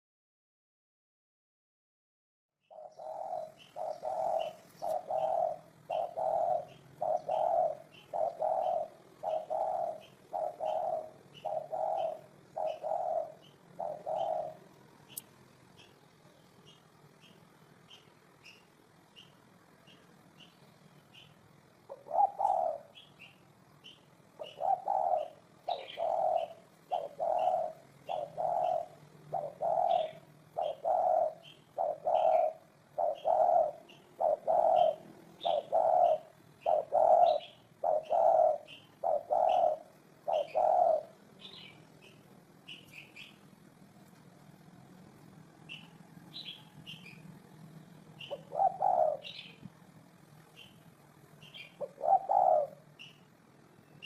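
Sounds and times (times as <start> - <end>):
small birds chirping: 2.6 - 54.0
dove cooing: 2.7 - 15.2, 21.1 - 43.9, 44.7 - 53.3.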